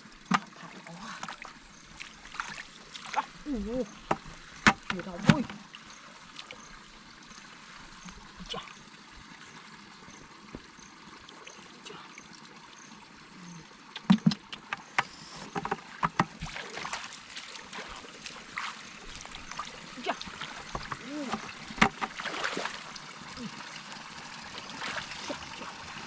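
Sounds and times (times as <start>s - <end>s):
stream trickling: 0.0s - 26.0s
water splashing and sloshing: 0.0s - 26.0s.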